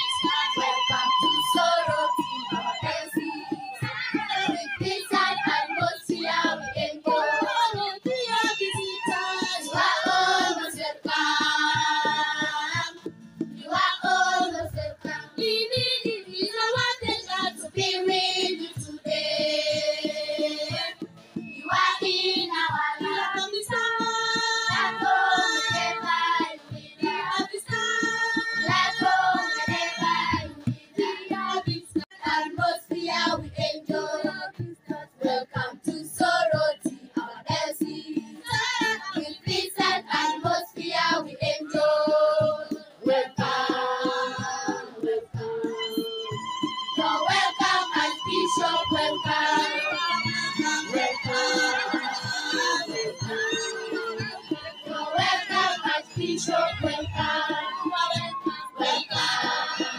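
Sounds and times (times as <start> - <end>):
children's choir singing: 0.0 - 13.0, 13.6 - 59.9.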